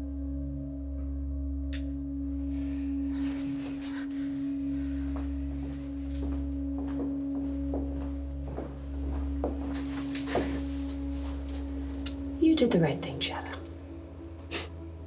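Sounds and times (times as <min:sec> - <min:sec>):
suspense film score drone: 0:00.0 - 0:15.0.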